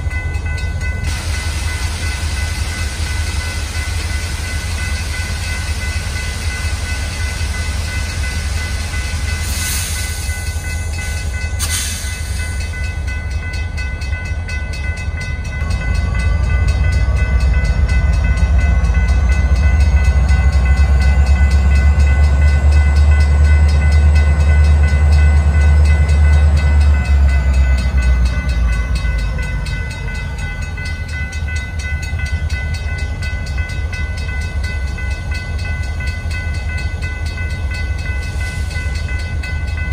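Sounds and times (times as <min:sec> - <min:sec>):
diesel locomotive engine rumbling: 0:00.0 - 0:39.9.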